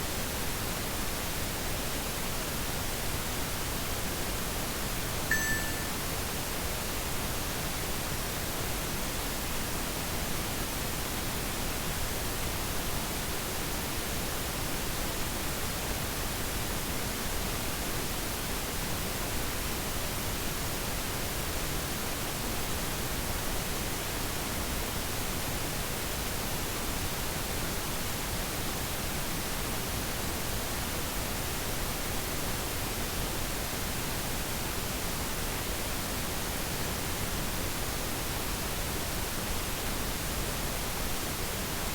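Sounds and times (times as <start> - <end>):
steady static hiss: 0.0 - 41.9.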